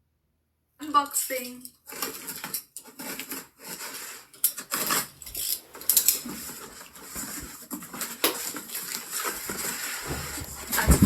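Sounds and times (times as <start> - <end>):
package rustling and scraping: 1.9 - 11.0.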